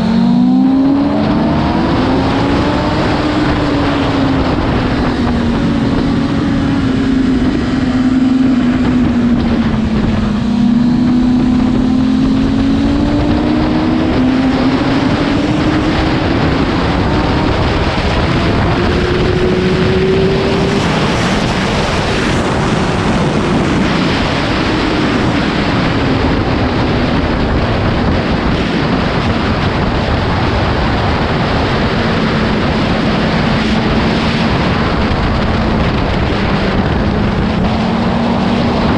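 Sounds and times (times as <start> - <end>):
heavy wind noise: 0.0 - 38.9
motorcycle engine running hard: 0.0 - 38.9.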